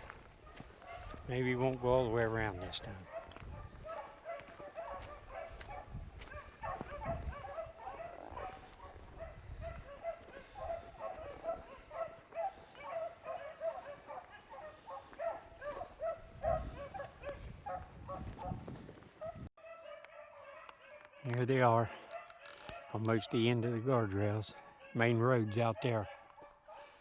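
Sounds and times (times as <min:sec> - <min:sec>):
dogs baying: 0:00.0 - 0:27.0.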